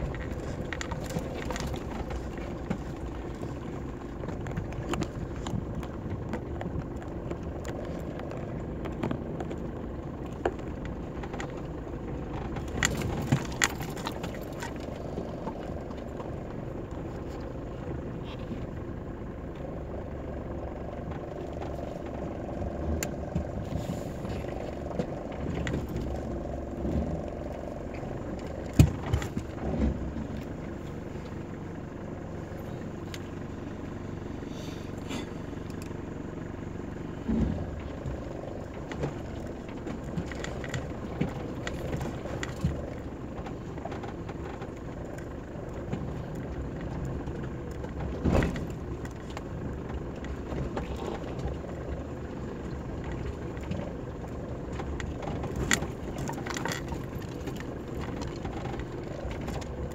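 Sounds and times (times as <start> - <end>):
vehicle engine at low speed: 0.0 - 59.9
vehicle knocking and rattling: 0.0 - 59.9.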